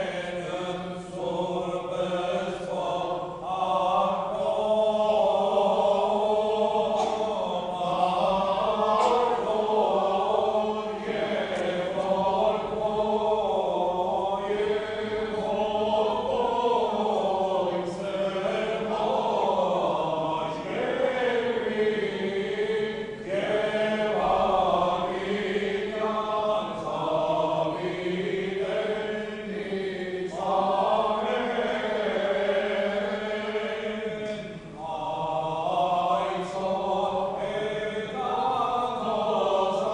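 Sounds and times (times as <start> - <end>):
choir chanting unaccompanied: 0.0 - 39.9.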